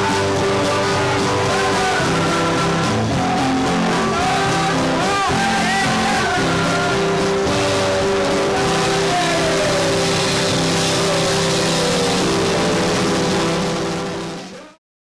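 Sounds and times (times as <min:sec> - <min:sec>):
rock music: 0:00.0 - 0:14.8.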